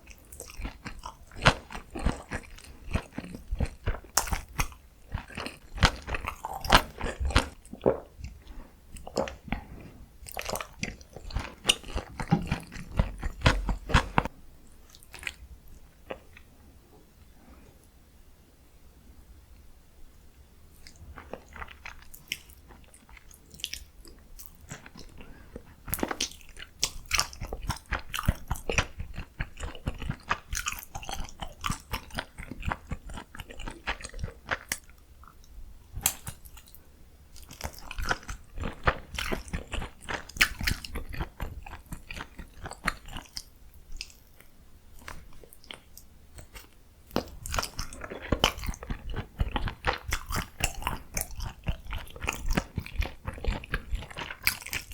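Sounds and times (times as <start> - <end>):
person chewing food: 0.0 - 16.5, 20.7 - 54.9.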